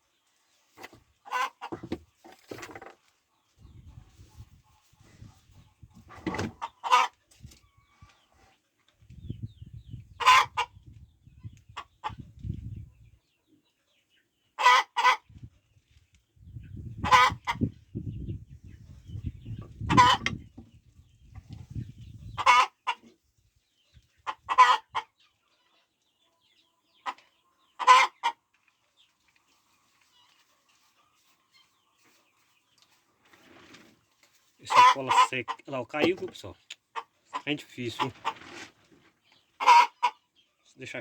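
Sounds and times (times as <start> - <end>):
chicken clucking: 0.1 - 41.0.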